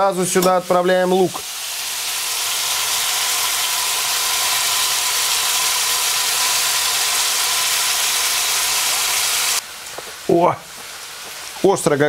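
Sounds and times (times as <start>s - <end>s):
meat and onion sizzling in oil: 0.0s - 11.9s.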